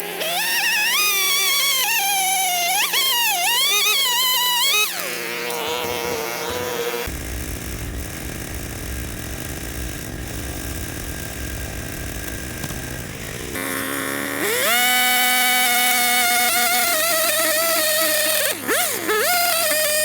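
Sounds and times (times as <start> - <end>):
small gas engine running unevenly: 0.0 - 20.0.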